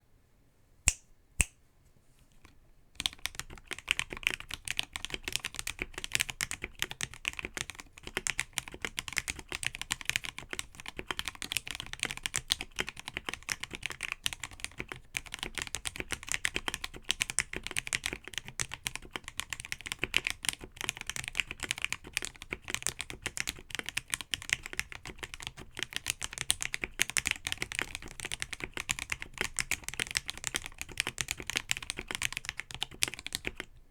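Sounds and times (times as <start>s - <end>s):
typing on mechanical keyboard: 3.0s - 33.7s.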